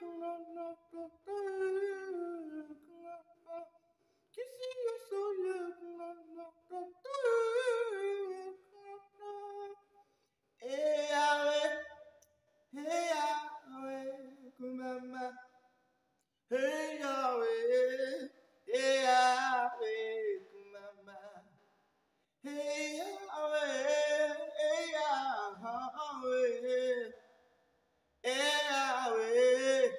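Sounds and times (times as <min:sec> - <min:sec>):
man singing unaccompanied: 0:00.0 - 0:03.7, 0:04.4 - 0:09.8, 0:10.6 - 0:15.6, 0:16.5 - 0:21.6, 0:22.4 - 0:27.2, 0:28.2 - 0:29.9.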